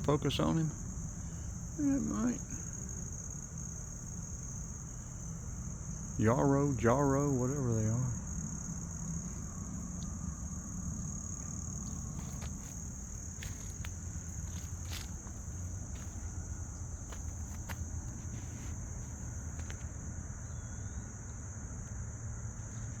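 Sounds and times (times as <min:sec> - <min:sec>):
low background rumble: 0:00.0 - 0:22.6
insects chirring: 0:00.0 - 0:23.0.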